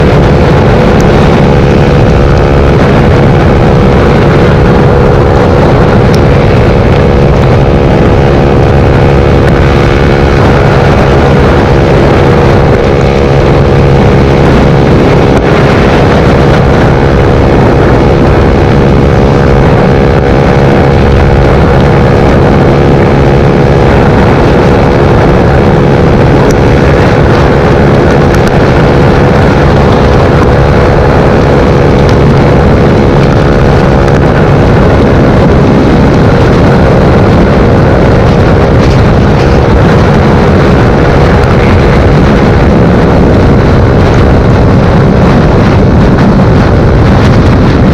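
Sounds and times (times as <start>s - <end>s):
motorcycle engine running steadily: 0.0s - 47.9s.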